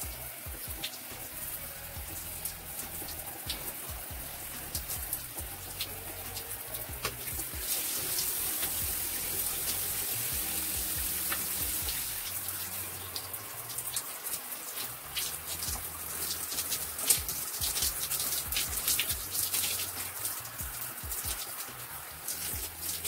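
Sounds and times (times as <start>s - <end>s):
shower spray on skin: 0.0s - 23.0s
water drips and splashes: 0.0s - 23.0s.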